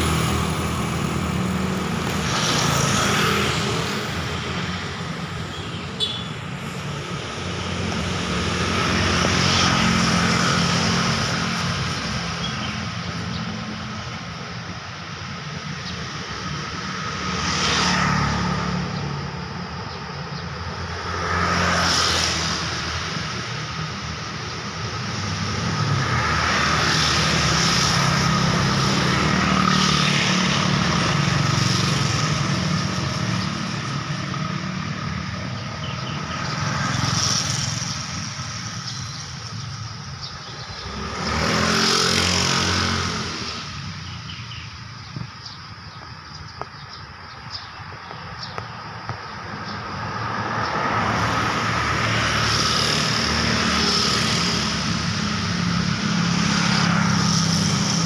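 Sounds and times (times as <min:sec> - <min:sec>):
steady traffic hum: 0:00.0 - 0:58.0
vehicles passing: 0:00.0 - 0:58.0.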